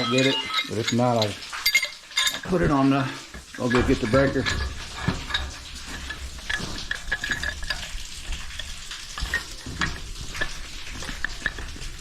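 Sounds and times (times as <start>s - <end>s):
wrench clicking and scraping on pipe fittings: 0.0s - 12.0s.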